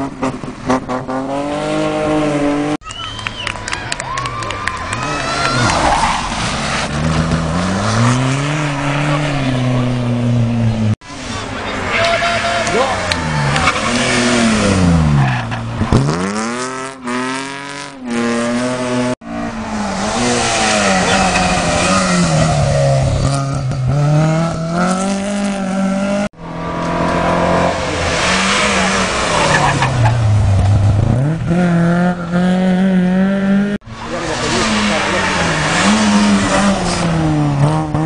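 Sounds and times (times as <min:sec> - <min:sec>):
rally cars racing past: 0:03.9 - 0:38.0.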